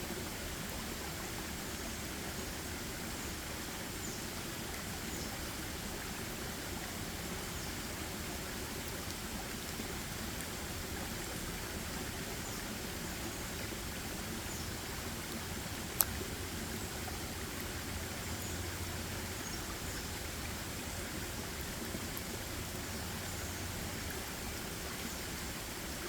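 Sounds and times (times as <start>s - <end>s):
continuous rushing hiss: 0.0s - 26.0s.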